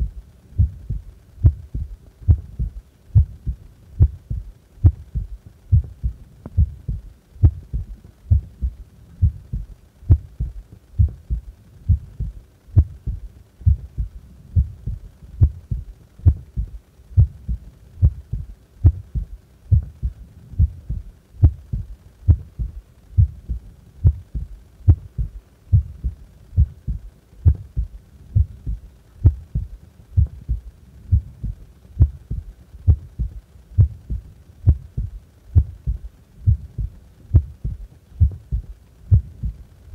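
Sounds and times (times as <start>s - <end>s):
heartbeat: 0.0s - 39.7s.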